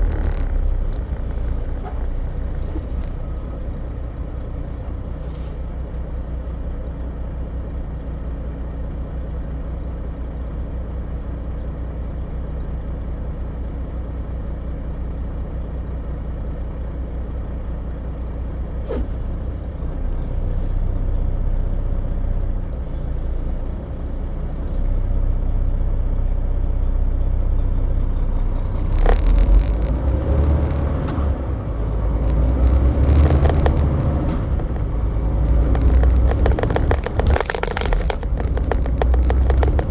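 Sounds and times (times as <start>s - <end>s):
truck diesel engine and road noise: 0.0s - 39.9s.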